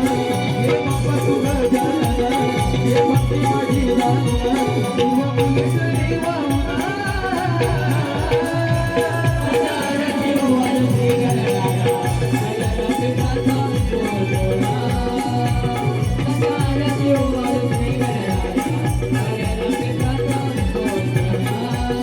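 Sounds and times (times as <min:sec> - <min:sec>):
jingling percussion: 0:00.0 - 0:22.0
person singing: 0:00.0 - 0:22.0
regular drum beat: 0:00.0 - 0:22.0.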